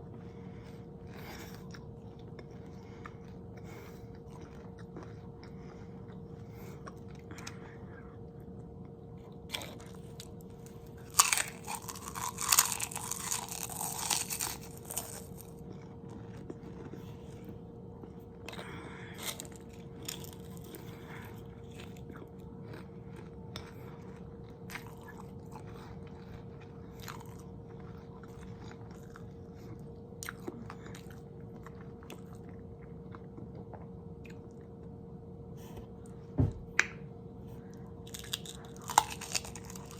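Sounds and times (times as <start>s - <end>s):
crunchy biting and chewing: 0.0s - 7.8s, 9.2s - 34.7s, 37.8s - 39.9s.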